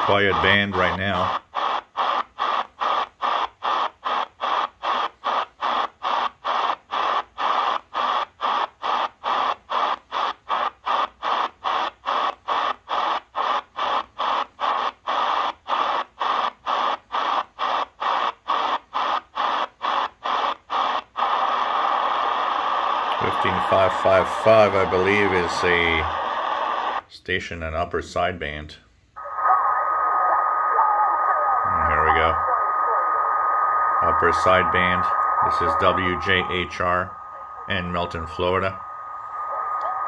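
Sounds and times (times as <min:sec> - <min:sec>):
pulsing shortwave static: 0:00.0 - 0:27.1, 0:29.2 - 0:40.0.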